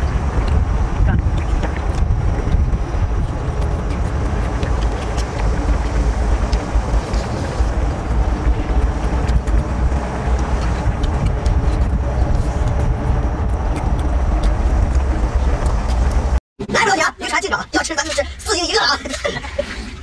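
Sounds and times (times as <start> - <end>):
low rumble of outdoor noise: 0.0 - 20.0.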